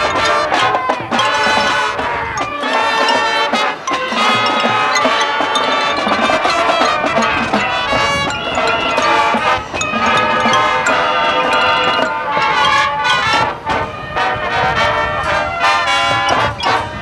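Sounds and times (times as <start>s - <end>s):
percussion: 0.0s - 14.0s, 15.2s - 17.0s
wind instruments holding chords: 0.0s - 17.0s.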